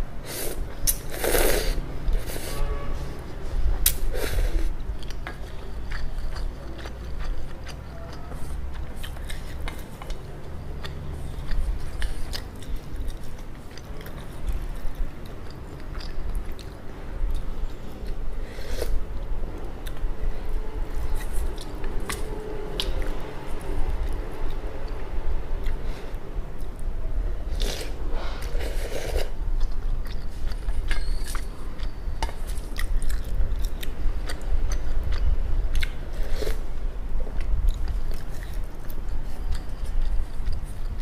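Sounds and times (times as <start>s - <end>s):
chewing noodles: 3.8s - 26.8s, 27.4s - 41.0s.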